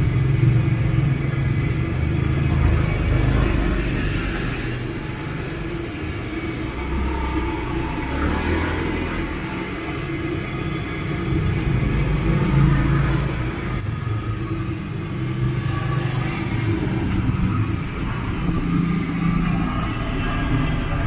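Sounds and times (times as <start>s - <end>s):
passing road traffic: 0.0s - 21.0s.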